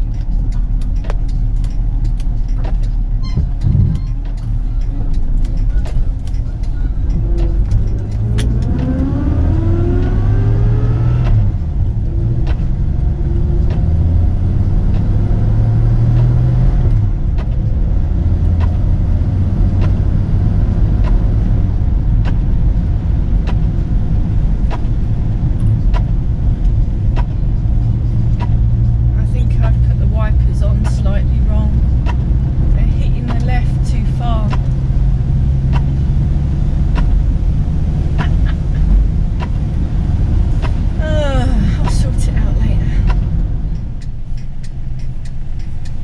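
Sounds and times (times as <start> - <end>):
car engine revving and cruising: 0.0 - 46.0.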